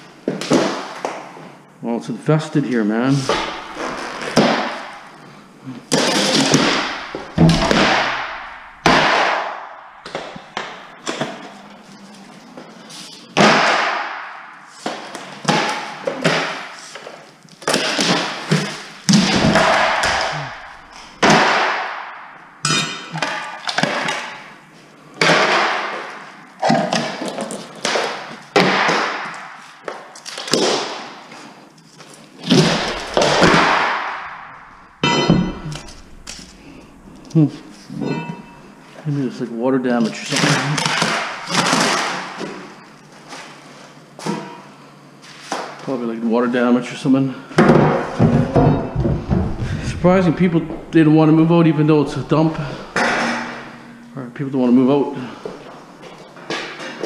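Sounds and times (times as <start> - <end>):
floorboards cracking and clattering: 0.0 - 1.6, 3.1 - 39.0, 40.1 - 45.8, 47.6 - 54.1, 55.2 - 57.0.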